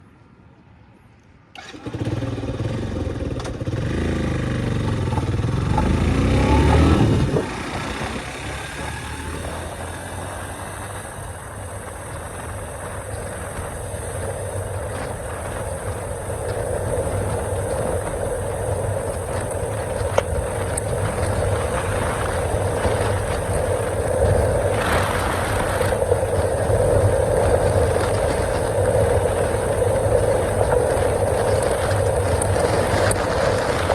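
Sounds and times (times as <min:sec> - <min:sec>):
motorcycle engine revving: 0:01.6 - 0:33.9.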